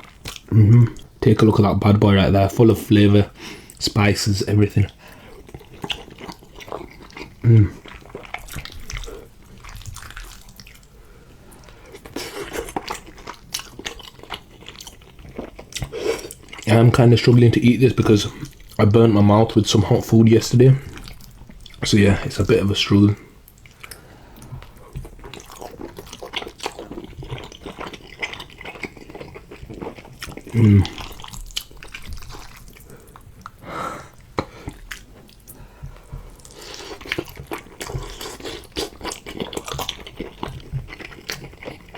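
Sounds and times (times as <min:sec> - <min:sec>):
wet chewing and mouth sounds: 0:00.0 - 0:01.6, 0:04.6 - 0:41.9.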